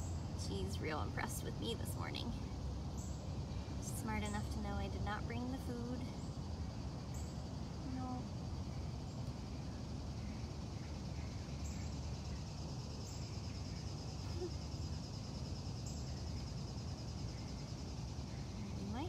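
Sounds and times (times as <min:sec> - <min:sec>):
insects trilling: 0:00.0 - 0:19.0
steady low rumble: 0:00.0 - 0:19.0.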